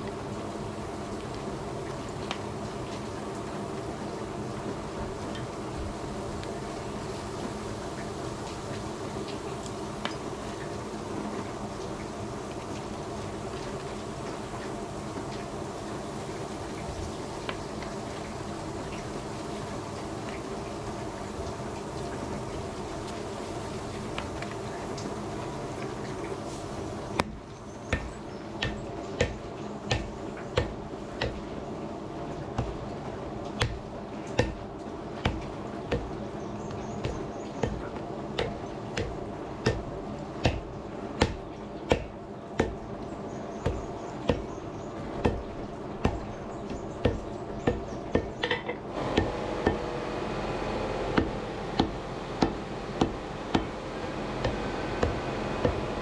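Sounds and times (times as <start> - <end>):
background hum: 0.0 - 56.0.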